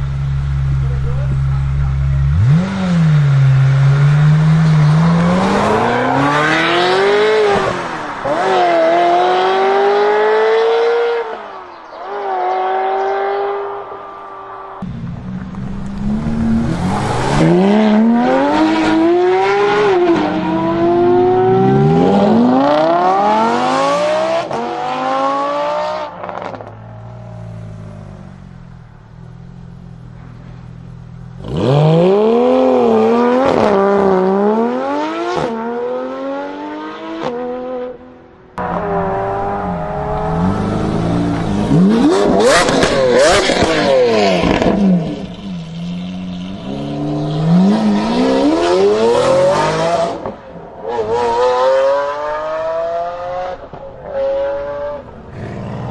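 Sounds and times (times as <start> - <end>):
car engine accelerating through gears: 0.0 - 11.4, 14.7 - 38.0, 38.6 - 55.9.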